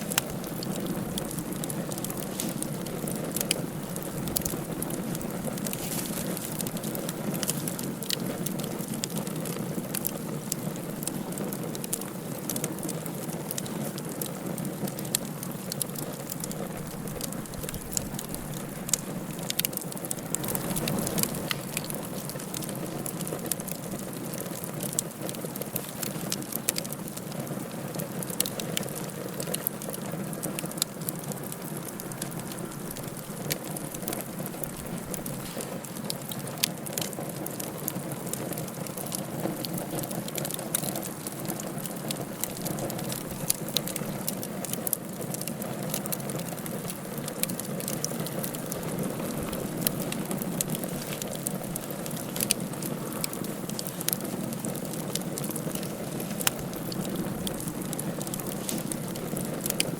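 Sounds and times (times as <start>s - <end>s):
fire flames hissing: 0.0s - 59.9s
logs crackling and popping: 0.0s - 59.9s.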